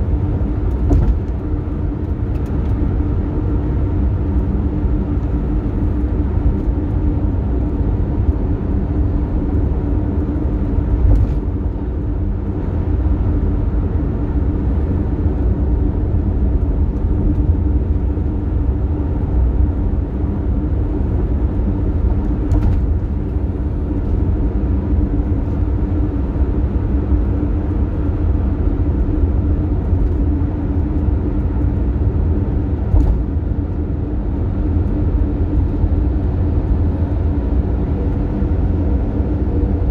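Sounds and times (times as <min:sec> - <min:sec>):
car road and engine rumble: 0:00.0 - 0:39.9
steady hum: 0:00.0 - 0:39.9.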